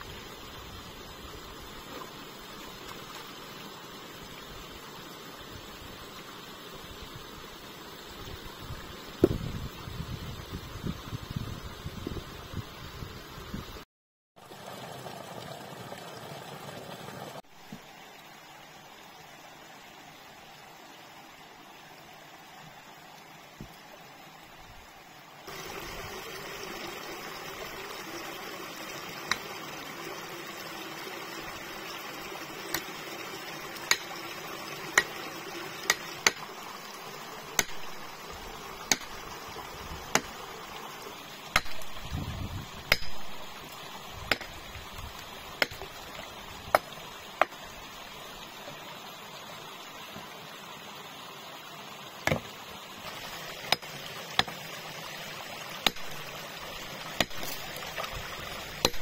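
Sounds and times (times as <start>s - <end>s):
running water rushing: 0.0s - 13.8s, 14.4s - 59.0s.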